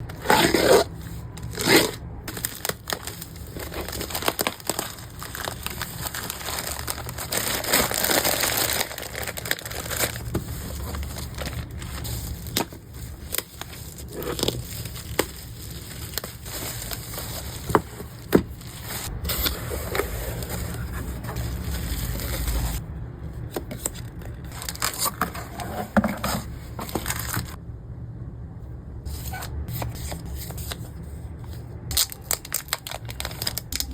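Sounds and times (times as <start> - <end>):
packing materials crinkling and tearing: 0.0 - 22.8, 23.5 - 27.6, 31.5 - 33.9.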